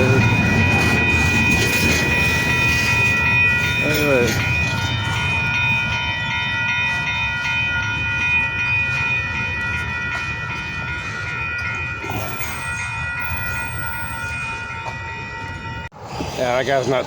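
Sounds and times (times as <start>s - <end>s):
high-pitched ringing tones: 0.0s - 15.9s
freight train rumble: 0.0s - 17.0s.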